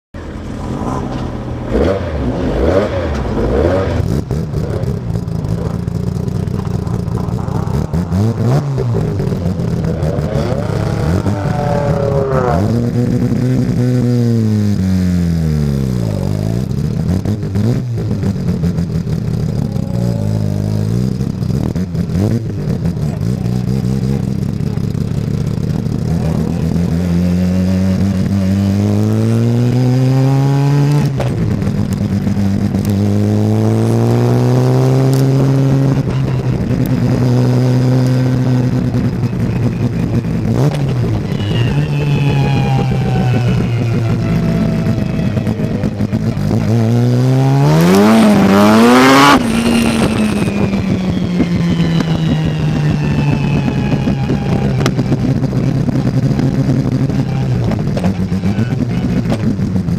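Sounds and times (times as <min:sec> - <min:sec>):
race car engine accelerating: 0:00.2 - 0:59.9.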